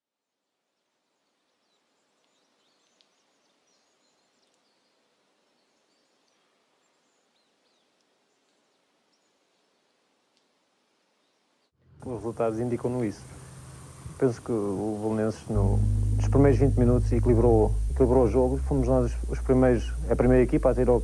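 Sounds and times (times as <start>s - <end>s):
faint outdoor ambience: 0.2s - 21.0s.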